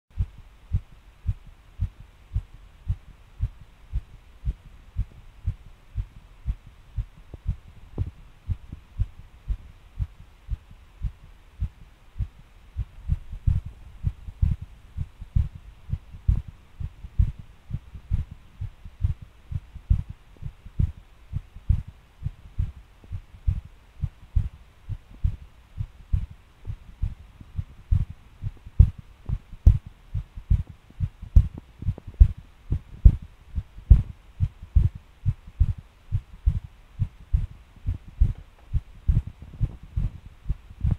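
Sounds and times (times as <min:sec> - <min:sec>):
heartbeat thumps: 0:00.1 - 0:40.9.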